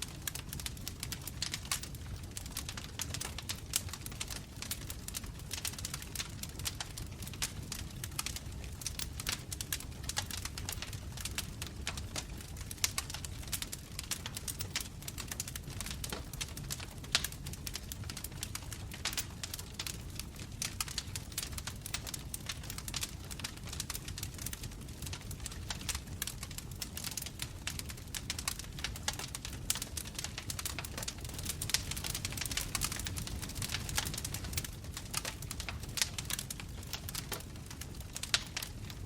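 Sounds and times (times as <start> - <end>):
low rumble of flames: 0.0 - 39.0
wood fire crackling: 0.0 - 39.0.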